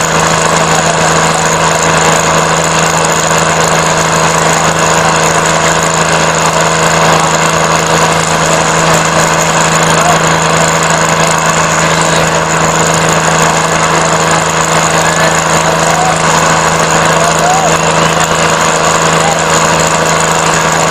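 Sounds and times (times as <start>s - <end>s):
tractor diesel engine droning: 0.0s - 20.9s
tyres spinning in dirt: 0.0s - 20.9s.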